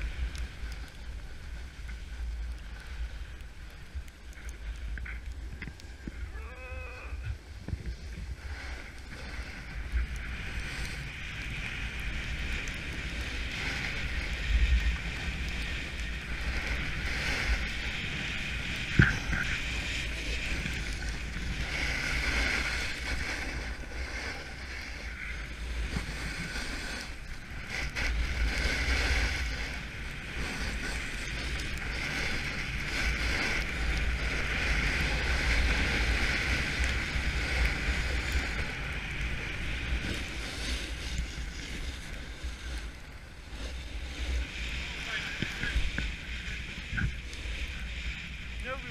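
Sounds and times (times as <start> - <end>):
snowboard scraping on snow: 0.0 - 6.3, 7.2 - 48.9
wind rumbling on microphone: 0.0 - 48.9.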